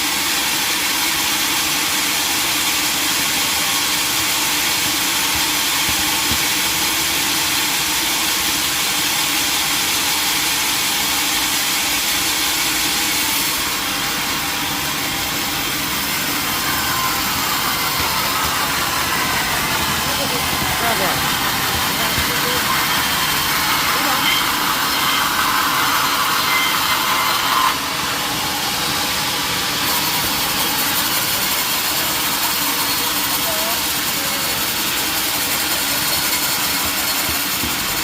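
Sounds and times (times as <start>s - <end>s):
sawmill machinery running: 0.0s - 38.0s.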